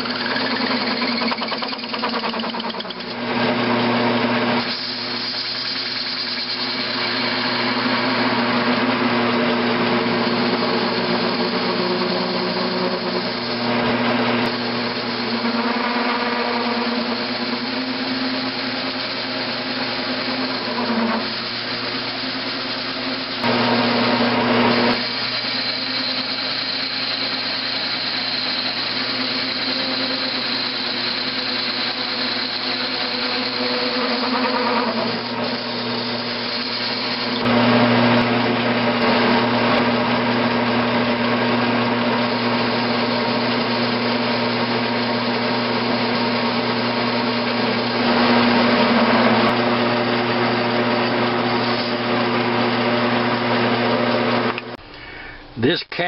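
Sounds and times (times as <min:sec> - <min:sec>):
metal lathe motor hum and whine: 0:00.0 - 0:54.8.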